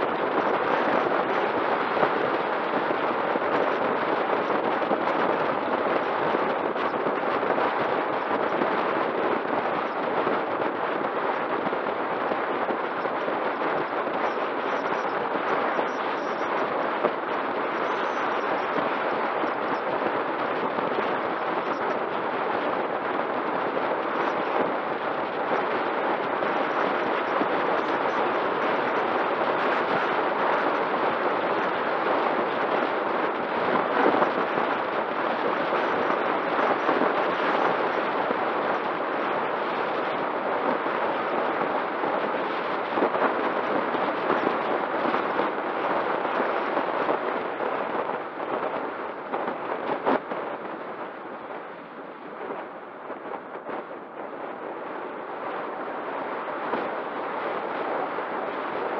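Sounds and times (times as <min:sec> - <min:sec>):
faint steady hum: 0:00.0 - 0:58.9
wind rushing over camera: 0:00.0 - 0:58.9.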